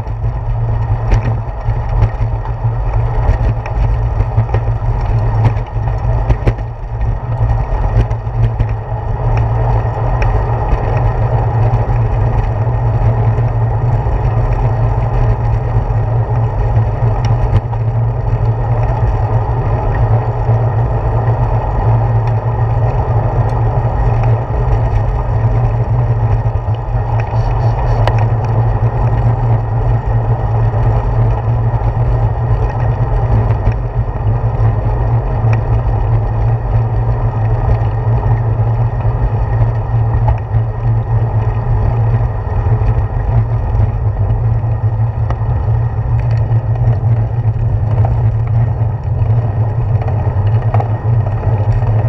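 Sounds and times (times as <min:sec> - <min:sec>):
tyre and road vibration: 0:00.0 - 0:52.0
wind rumble on microphone: 0:00.0 - 0:52.0.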